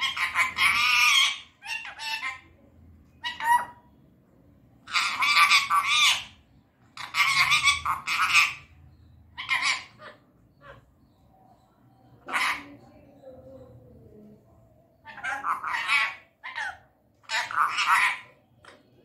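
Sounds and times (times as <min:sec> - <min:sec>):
parakeet raspy calling: 0:00.0 - 0:04.0, 0:04.8 - 0:12.9, 0:15.0 - 0:19.0.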